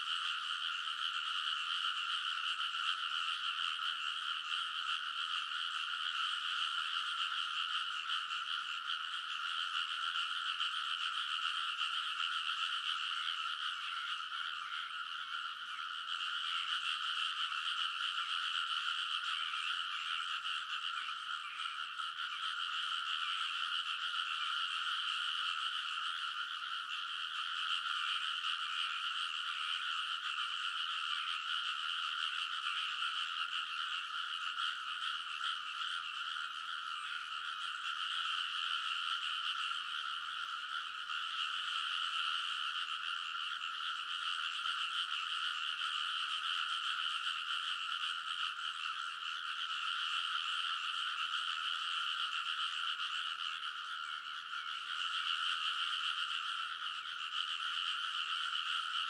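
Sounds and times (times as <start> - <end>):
chorus of frogs croaking: 0.0 - 59.0.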